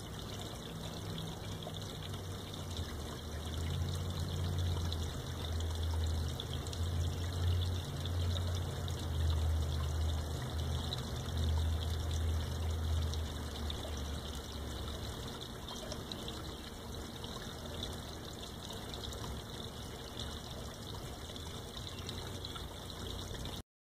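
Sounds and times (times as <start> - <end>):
water trickling into pond: 0.0 - 23.6.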